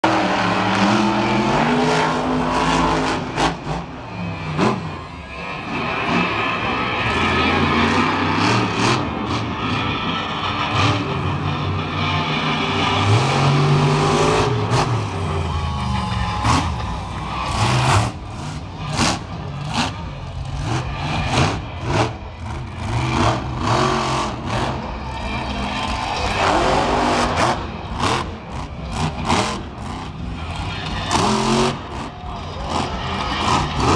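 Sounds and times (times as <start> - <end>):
truck engine revving hard: 0.0 - 33.9.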